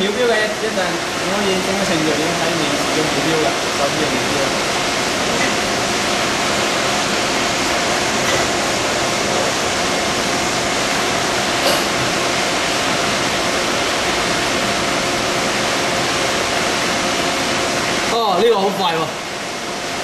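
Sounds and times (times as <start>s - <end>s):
spindle hum: 0.0s - 18.3s
coolant and cutting hiss: 0.0s - 20.0s.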